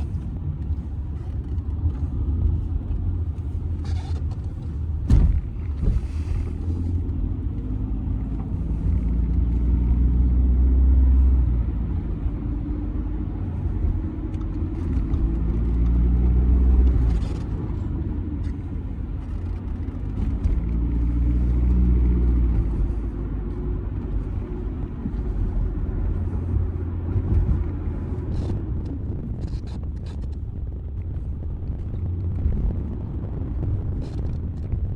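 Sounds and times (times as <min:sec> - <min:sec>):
car engine hum: 0:00.0 - 0:34.9
road and tyre rumble: 0:00.0 - 0:34.9.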